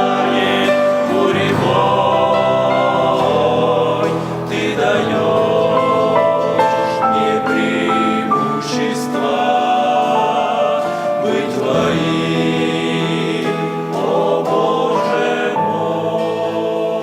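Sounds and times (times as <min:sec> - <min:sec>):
men's choir singing a hymn: 0:00.0 - 0:17.0.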